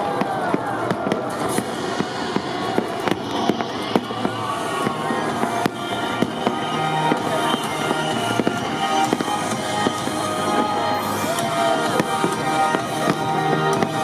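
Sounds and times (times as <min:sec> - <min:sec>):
fireworks bangs: 0:00.0 - 0:14.0
music playing: 0:00.0 - 0:14.0.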